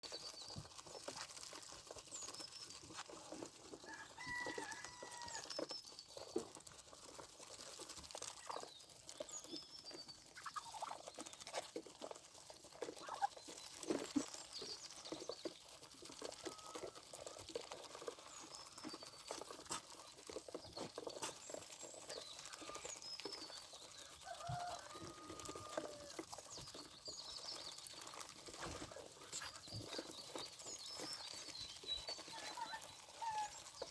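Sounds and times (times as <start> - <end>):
chickens clucking: 0.0 - 33.9
small birds chirping: 0.0 - 33.9.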